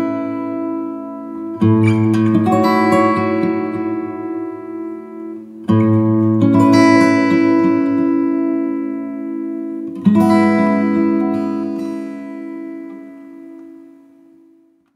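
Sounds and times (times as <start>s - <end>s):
strummed acoustic guitar chords: 0.0s - 14.7s.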